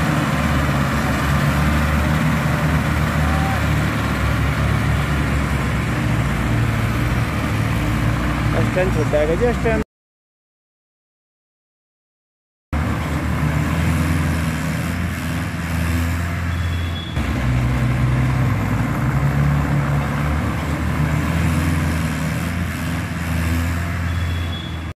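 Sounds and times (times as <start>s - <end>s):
tractor diesel engine running: 0.0s - 9.8s, 12.8s - 24.9s.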